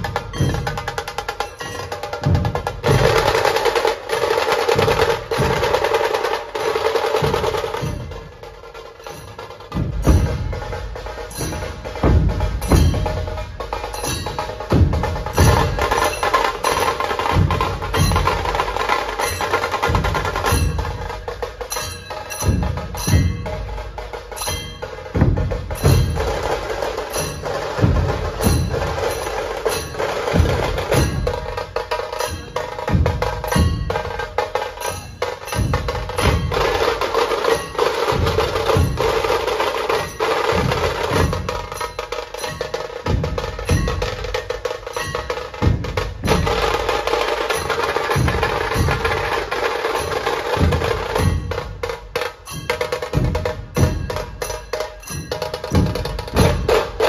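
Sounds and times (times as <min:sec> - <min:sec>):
many barrel drums beaten: 0:00.0 - 0:57.0.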